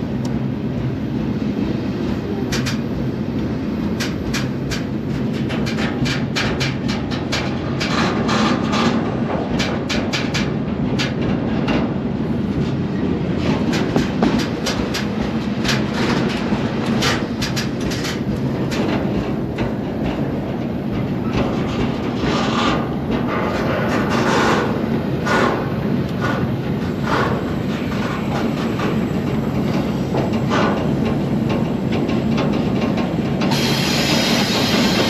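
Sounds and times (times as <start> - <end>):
train wheels rumbling on rail: 0.0 - 35.0
clacks from wheels and couplings: 1.6 - 35.0.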